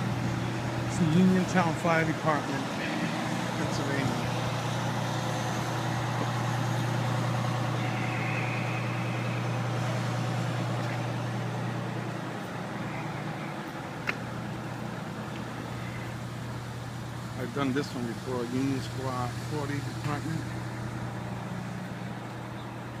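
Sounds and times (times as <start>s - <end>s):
fire engine idling: 0.0s - 23.0s.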